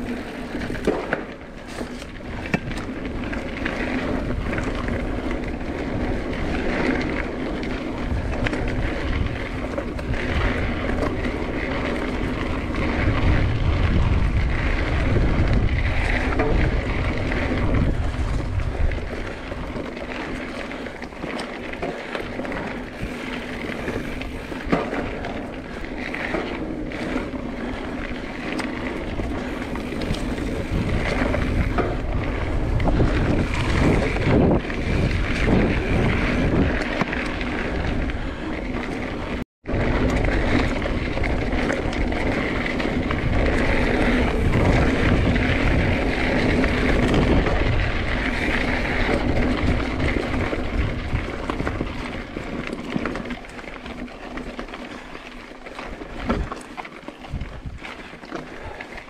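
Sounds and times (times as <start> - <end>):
wind buffeting microphone: 0.0 - 53.6, 55.8 - 59.0
bike tyres rolling on dirt: 0.0 - 59.0.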